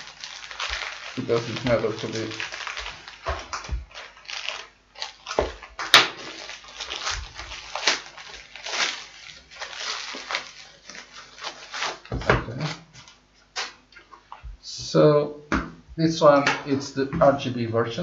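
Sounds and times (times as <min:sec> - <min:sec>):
plastic bag rustling and crinkling: 0:00.0 - 0:14.6.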